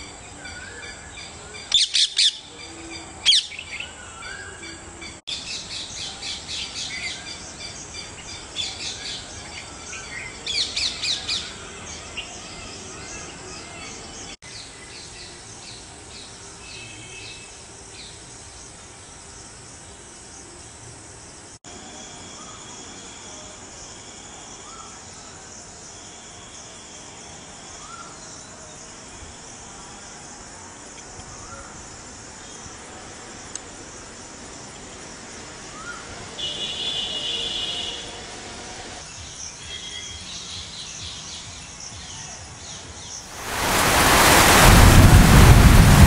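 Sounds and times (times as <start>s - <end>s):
faint outdoor background: 0.0s - 46.0s.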